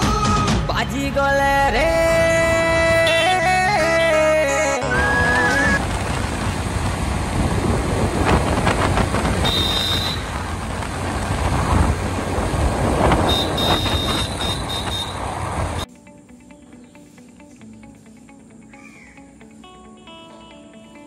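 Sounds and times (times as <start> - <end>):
road traffic rumble: 0.7 - 20.2.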